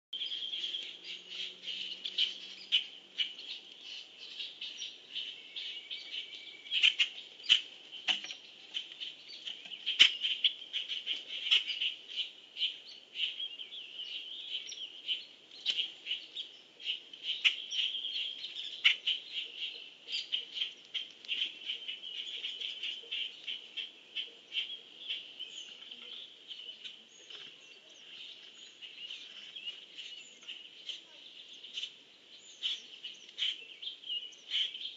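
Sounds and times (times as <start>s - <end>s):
bird chips and calls: 0.1s - 34.9s
high-pitched bird chorus: 0.1s - 34.9s.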